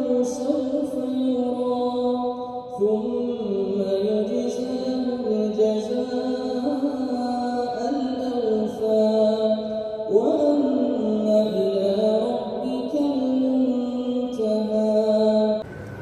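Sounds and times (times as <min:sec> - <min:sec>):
man chanting melodically: 0:00.0 - 0:15.6.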